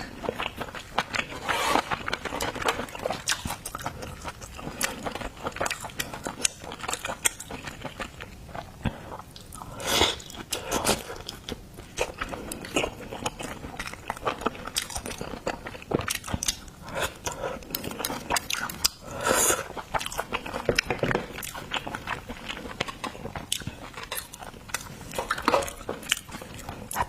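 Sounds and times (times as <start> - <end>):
chewing and crunching: 0.0 - 27.0.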